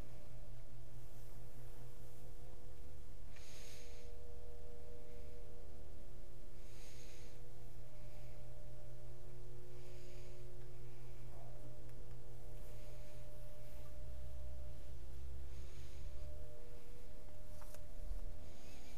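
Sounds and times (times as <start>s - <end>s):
faint steady tones: 0.0s - 18.9s
low room hum: 0.0s - 18.9s.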